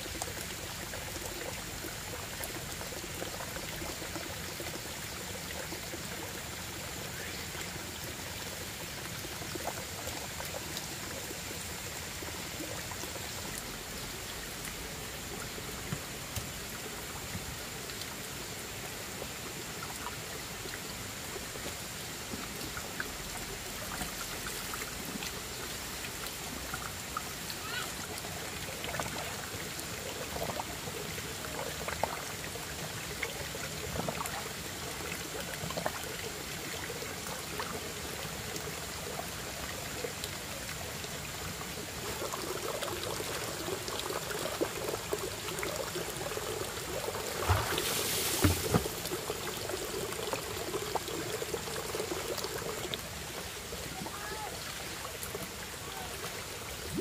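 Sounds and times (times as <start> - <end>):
running water trickling: 0.0 - 57.0.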